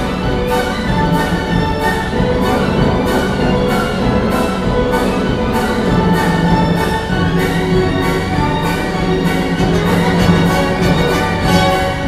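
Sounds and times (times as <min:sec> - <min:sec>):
orchestra playing over loudspeakers: 0:00.0 - 0:12.0.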